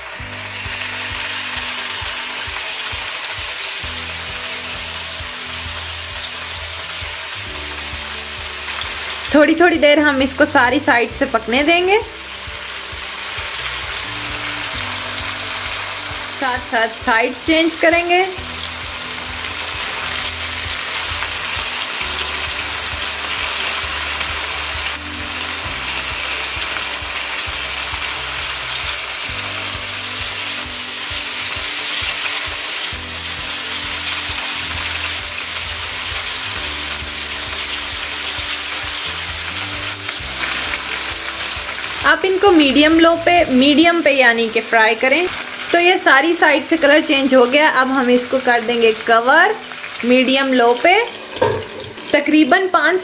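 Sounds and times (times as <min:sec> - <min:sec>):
meat sizzling in hot oil: 0:00.0 - 0:53.0.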